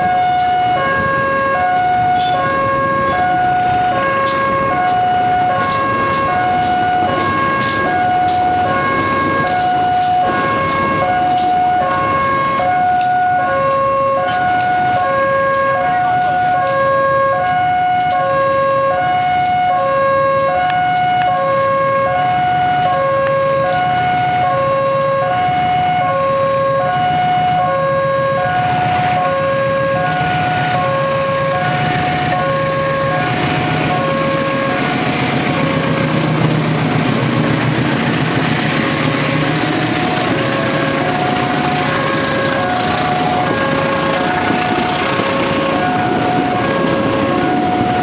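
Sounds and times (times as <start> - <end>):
level crossing two-tone alarm: 0.0 - 35.9, 38.1 - 48.0
locomotive engine drone: 0.0 - 48.0.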